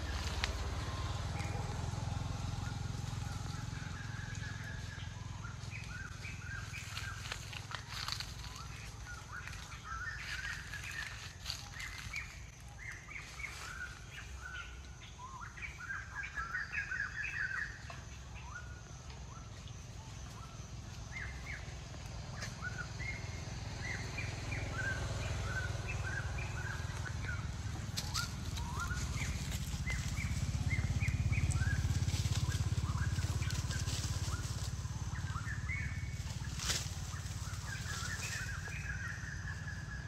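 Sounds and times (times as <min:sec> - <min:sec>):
small birds chirping: 0:00.0 - 0:02.0, 0:02.6 - 0:40.0
low rumble: 0:00.0 - 0:15.0, 0:18.9 - 0:40.0.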